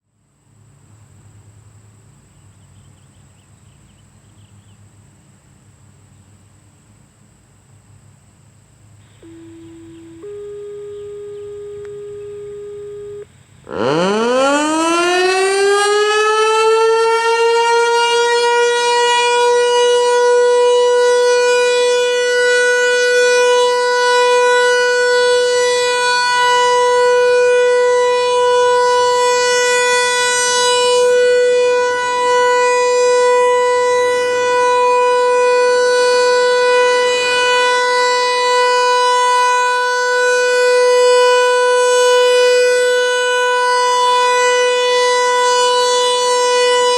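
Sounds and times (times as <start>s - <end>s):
warning siren winding up: 9.2s - 46.9s.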